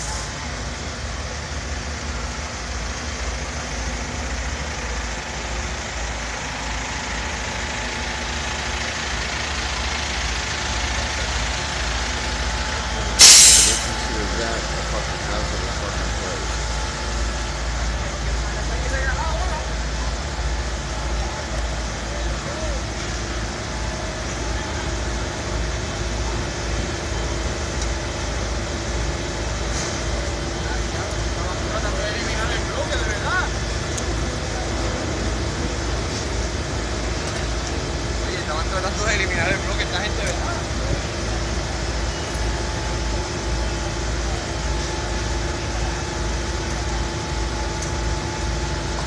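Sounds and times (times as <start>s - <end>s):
heavy vehicle engines idling: 0.0s - 49.0s
street noise: 0.0s - 49.0s.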